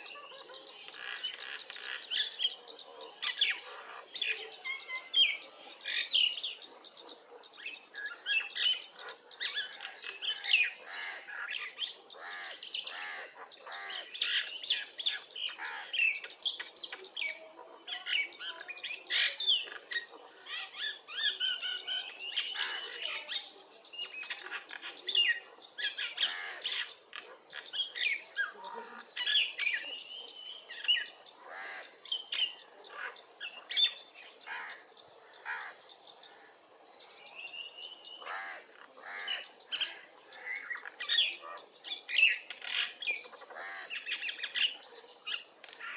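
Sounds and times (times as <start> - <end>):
birds chirping and squawking: 0.0 - 45.9.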